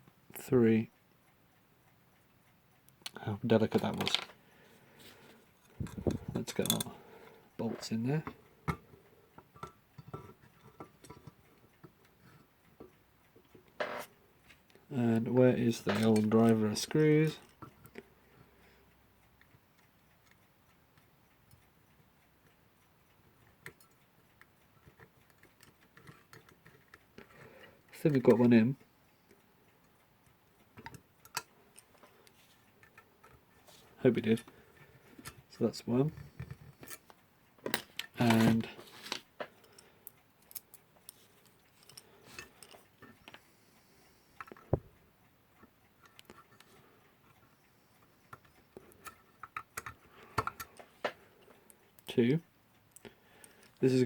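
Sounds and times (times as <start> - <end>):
faint clicks of small metal parts: 0.0 - 54.0.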